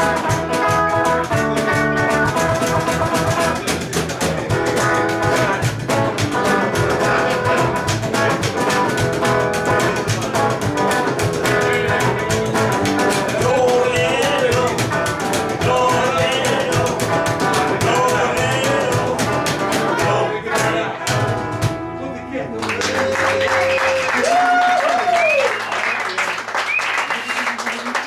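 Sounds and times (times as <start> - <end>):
upright bass plucking: 0.0 - 23.3
electric guitar: 0.0 - 25.4.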